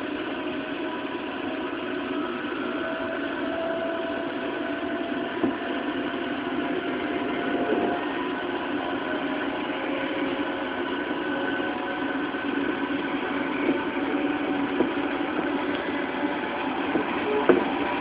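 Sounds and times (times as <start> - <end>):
faint motor whine: 0.0 - 18.0
train wheels and motors rumbling: 0.0 - 18.0.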